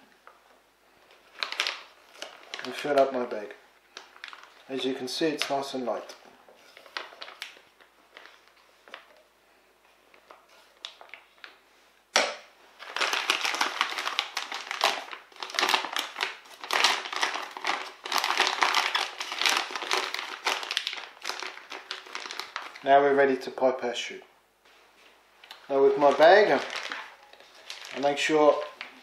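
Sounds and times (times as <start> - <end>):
plastic bag crinkling: 1.1 - 9.3, 10.0 - 11.6, 12.8 - 22.9, 25.4 - 29.0.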